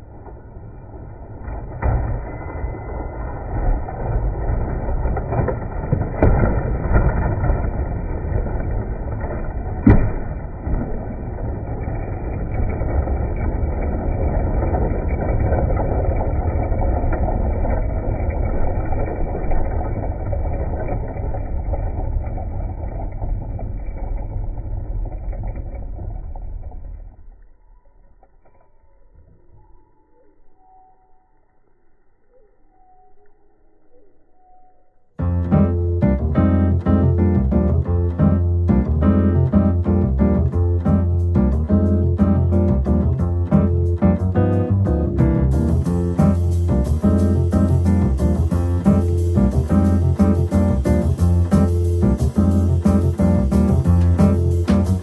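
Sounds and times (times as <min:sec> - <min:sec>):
model train low rumble: 0:00.0 - 0:06.2, 0:07.6 - 0:27.8, 0:35.2 - 0:55.0.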